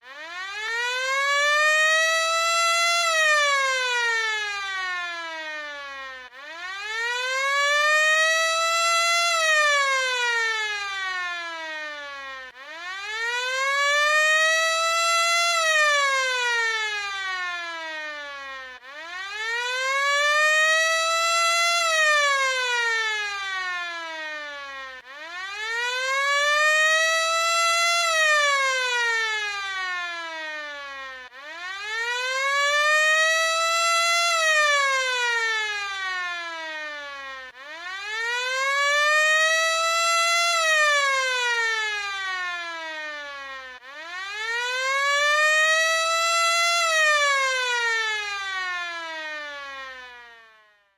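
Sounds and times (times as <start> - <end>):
air raid siren wailing: 0.0 - 50.6.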